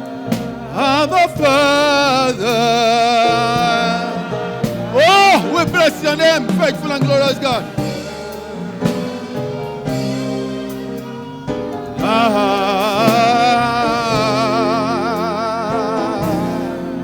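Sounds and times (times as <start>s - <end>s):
sustained keyboard chords: 0.0s - 17.0s.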